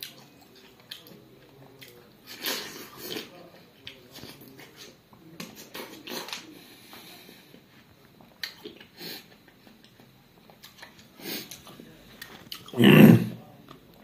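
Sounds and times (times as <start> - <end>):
wet chewing of watermelon: 0.0 - 6.4, 7.8 - 12.8.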